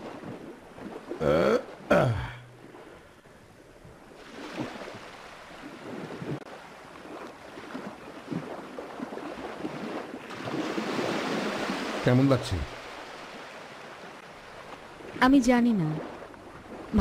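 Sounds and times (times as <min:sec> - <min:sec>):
wind and sea rushing: 0:00.0 - 0:17.0.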